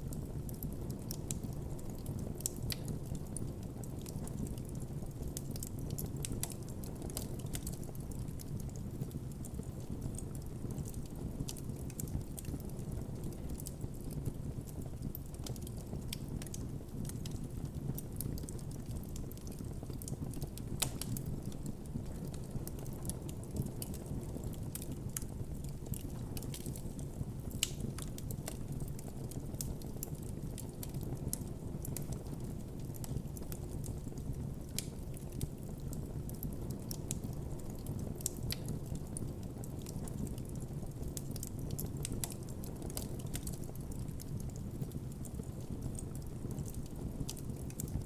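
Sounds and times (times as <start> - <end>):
wood crackling and popping: 0.0 - 48.0.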